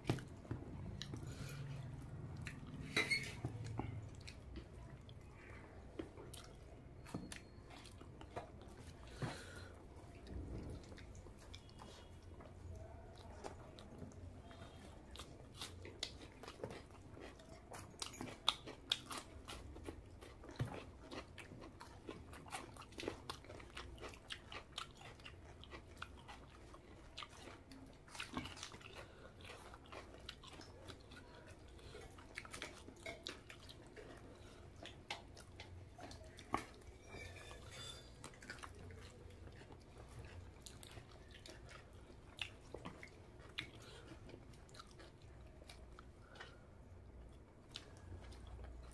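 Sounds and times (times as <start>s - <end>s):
person chewing: 0.0s - 48.9s.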